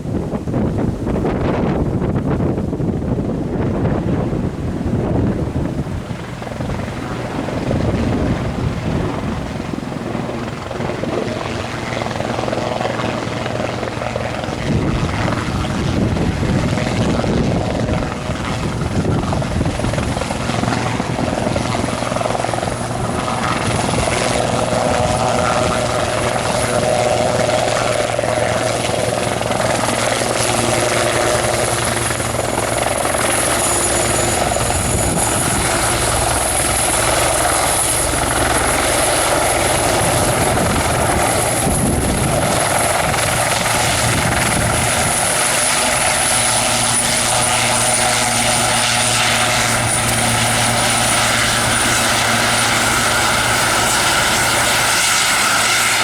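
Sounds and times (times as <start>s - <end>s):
helicopter rotor beat: 0.0s - 56.0s
high turbine whine: 0.0s - 56.0s.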